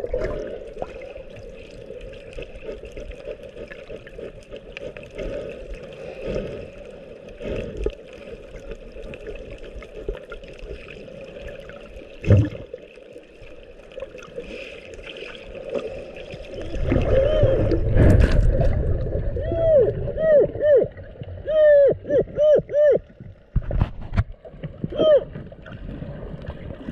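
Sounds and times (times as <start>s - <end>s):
underwater rushing water: 0.0s - 26.9s.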